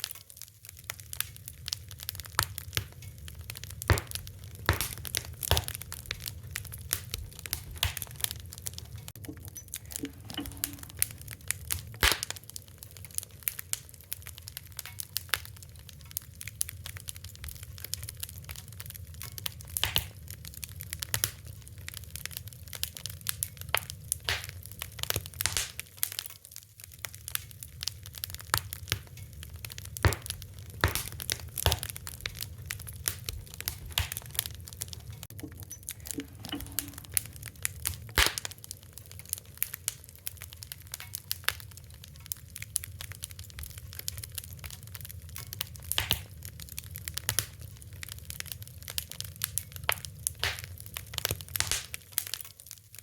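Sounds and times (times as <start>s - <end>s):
low rumble of flame: 0.0s - 53.0s
wood fire crackling and popping: 0.0s - 53.0s.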